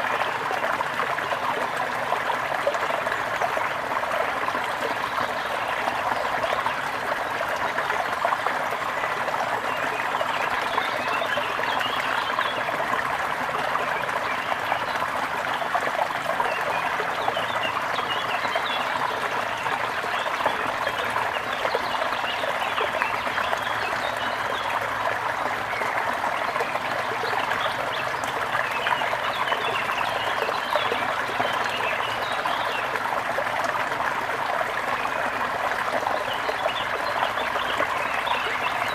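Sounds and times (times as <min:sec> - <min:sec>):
river flowing with a babble: 0:00.0 - 0:38.9.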